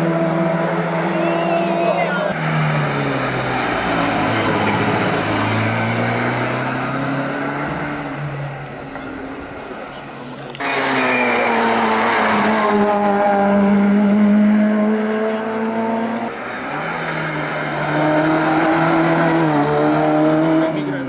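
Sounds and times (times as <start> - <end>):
race car engine running hard: 0.0 - 21.0.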